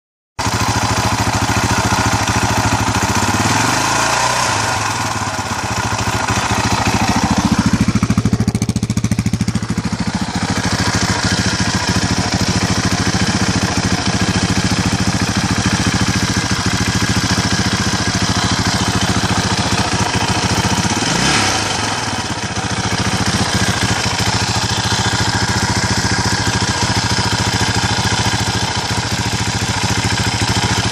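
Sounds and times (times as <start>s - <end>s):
motorcycle engine idling: 0.4s - 30.9s.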